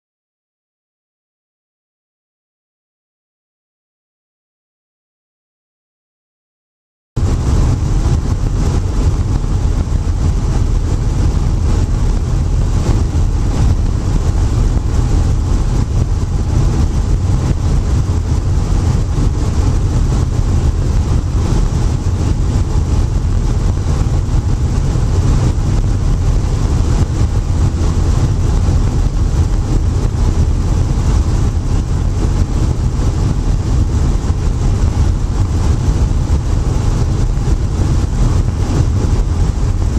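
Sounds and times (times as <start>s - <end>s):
helicopter engine and rotor drone: 7.2s - 39.9s.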